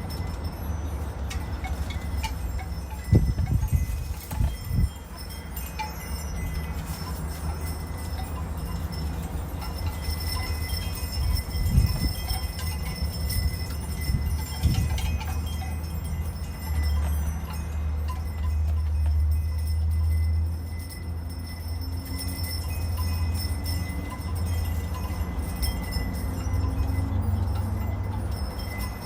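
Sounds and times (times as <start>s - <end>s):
wind chimes ringing: 0.0s - 29.0s
wind rumble on microphone: 0.0s - 29.0s.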